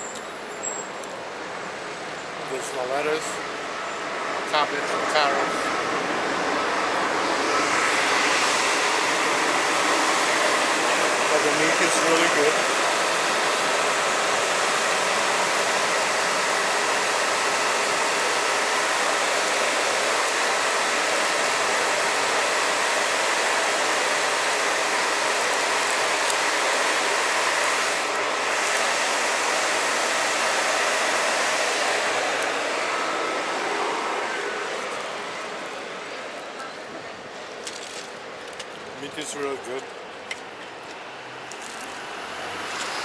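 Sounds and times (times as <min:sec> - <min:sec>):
loud rushing noise: 0:01.6 - 0:37.2.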